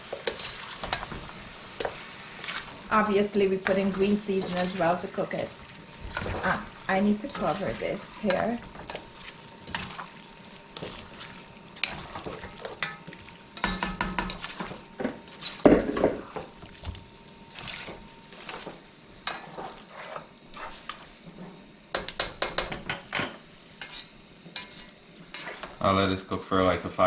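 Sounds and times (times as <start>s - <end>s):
chicken sizzling in a pot: 0.0s - 26.3s.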